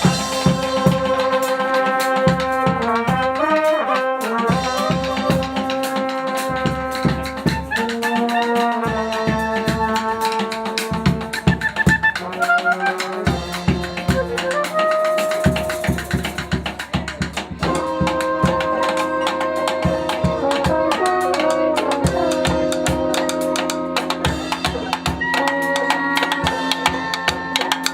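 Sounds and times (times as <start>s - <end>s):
brass band music: 0.0s - 27.9s
drum strokes: 0.0s - 27.9s.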